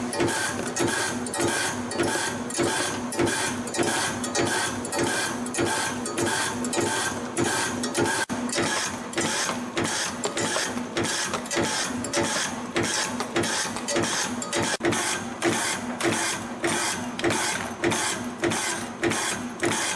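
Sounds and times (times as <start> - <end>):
ring making machine punch-cutting: 0.0 - 19.9.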